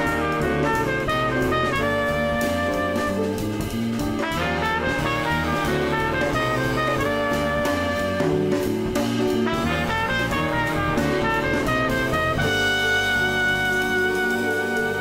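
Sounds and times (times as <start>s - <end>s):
jazz music with horns and drums: 0.0s - 15.0s.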